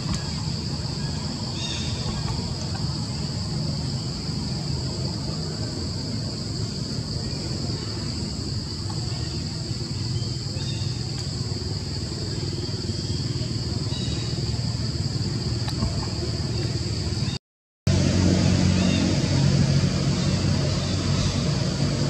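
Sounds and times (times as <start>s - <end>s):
insects droning: 0.0s - 22.0s
low background rumble: 0.0s - 22.0s.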